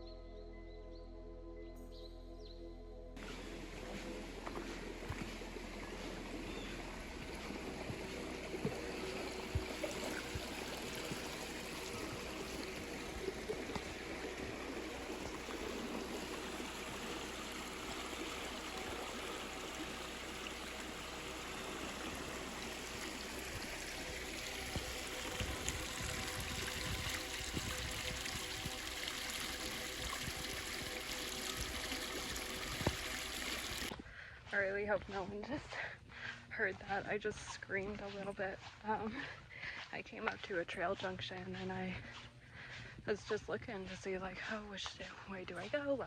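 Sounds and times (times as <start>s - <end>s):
faint sustained music tones: 0.0s - 46.0s.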